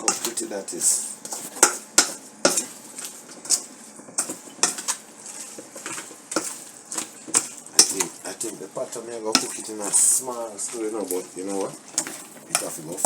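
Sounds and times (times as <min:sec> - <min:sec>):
spoon stirring vegetables: 0:00.0 - 0:13.0.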